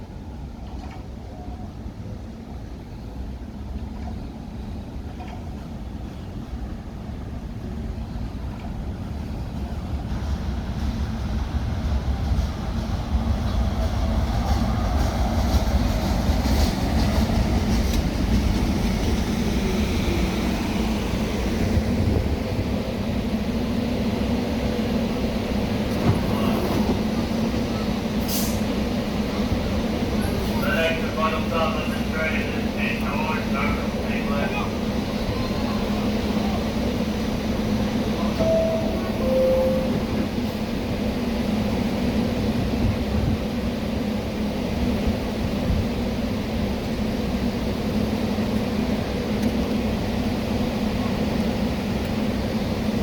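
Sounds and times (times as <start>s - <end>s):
electric train running past: 2.2s - 53.0s.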